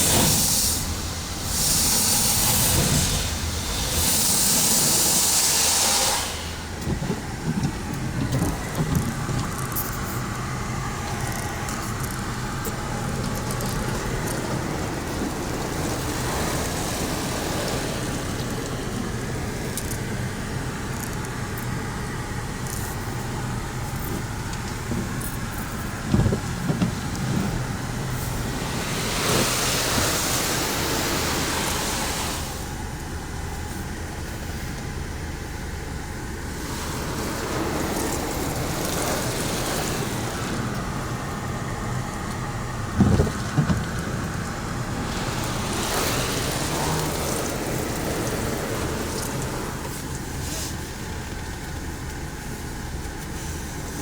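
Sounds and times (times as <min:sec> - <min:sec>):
car wash machinery: 0:00.0 - 0:54.0
hissing water spray: 0:00.0 - 0:54.0.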